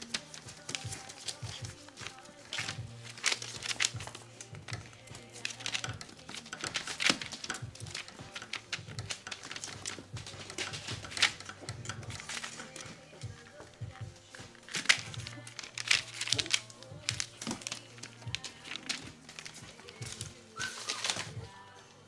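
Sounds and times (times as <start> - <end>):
background music: 0.0 - 22.0
crinkling rustles: 0.0 - 22.0.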